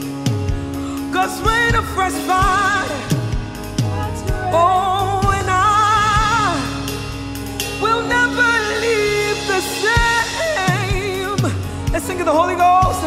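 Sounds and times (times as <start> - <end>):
band playing: 0.0 - 13.0
woman singing with vibrato: 1.0 - 13.0.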